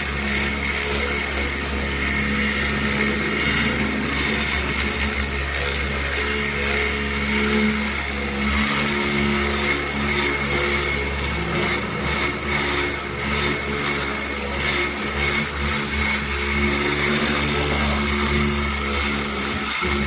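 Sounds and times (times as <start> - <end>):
power tool scraping metal: 0.0 - 20.0.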